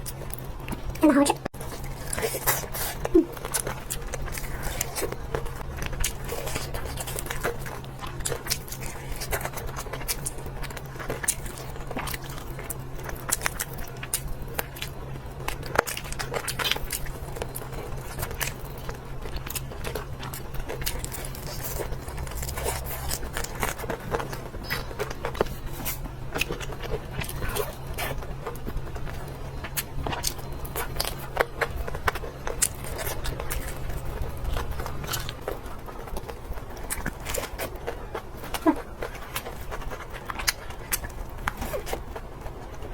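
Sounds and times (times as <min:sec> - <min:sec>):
crunchy chewing: 0:00.0 - 0:42.9
steady low hum: 0:00.0 - 0:42.9.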